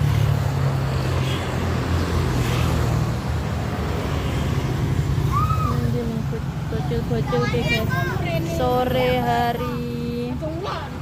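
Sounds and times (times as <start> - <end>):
motorbike engines rumbling: 0.0 - 11.0
road traffic: 0.0 - 11.0.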